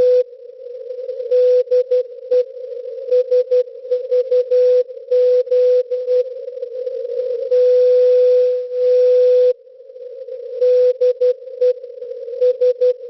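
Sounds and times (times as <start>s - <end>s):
receiver static: 0.0s - 13.0s.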